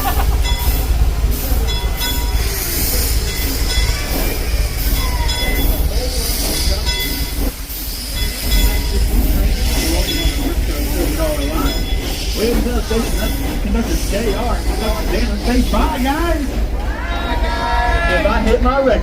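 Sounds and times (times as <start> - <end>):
steam train rumbling: 0.0 - 19.0
wheels squealing on rails: 0.0 - 19.0.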